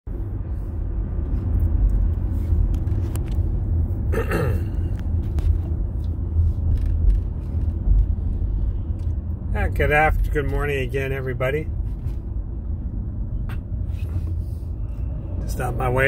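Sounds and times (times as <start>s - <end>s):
engine and tyre rumble: 0.1s - 16.0s.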